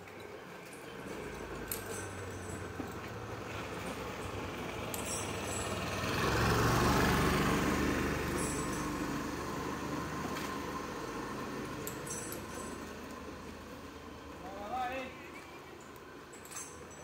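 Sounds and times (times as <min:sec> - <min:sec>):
motor vehicle passing: 0:00.7 - 0:16.0.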